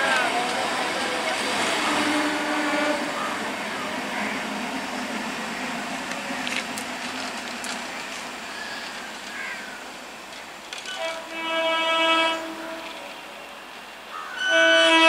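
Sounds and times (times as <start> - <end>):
train rolling on rails: 0.0 - 15.0.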